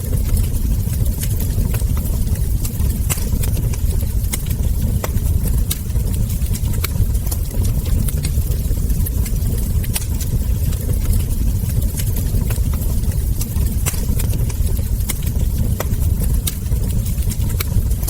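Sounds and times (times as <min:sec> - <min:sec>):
fire crackles and ember pops: 0:00.0 - 0:18.0
wood fire rumbling: 0:00.0 - 0:18.0.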